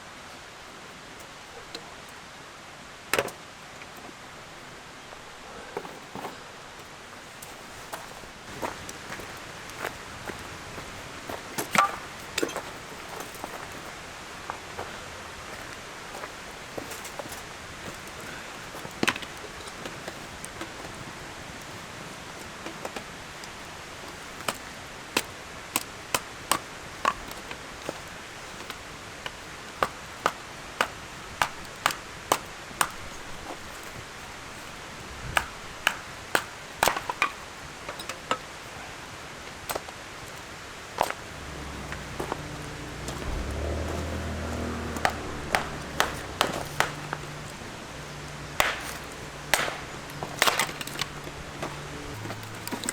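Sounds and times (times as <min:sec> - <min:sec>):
firewood cracking: 0:03.1 - 0:52.9.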